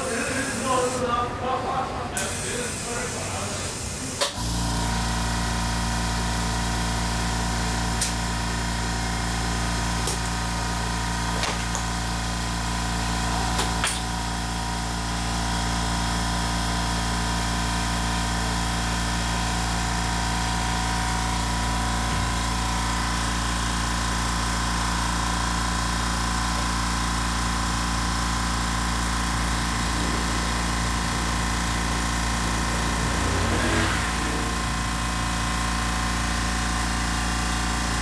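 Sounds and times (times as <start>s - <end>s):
workshop machine motor humming: 0.0s - 38.0s.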